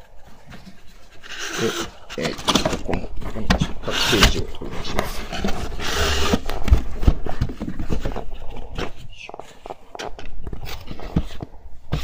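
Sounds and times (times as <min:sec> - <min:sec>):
cardboard box scraping and knocking: 0:00.2 - 0:12.0.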